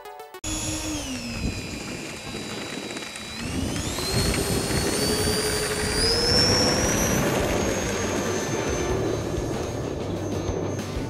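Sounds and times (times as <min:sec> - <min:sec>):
electric ducted fans whining: 0:00.4 - 0:11.0.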